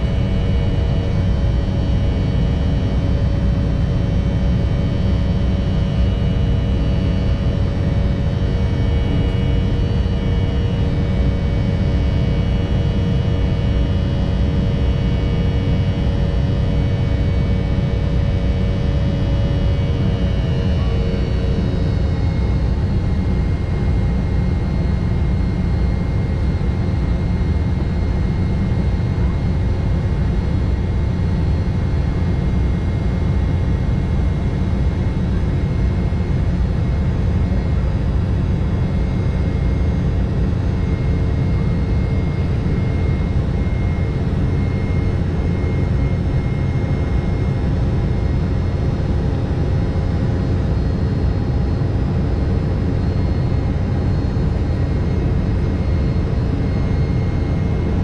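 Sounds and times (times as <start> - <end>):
jet engine drone: 0.0 - 58.0.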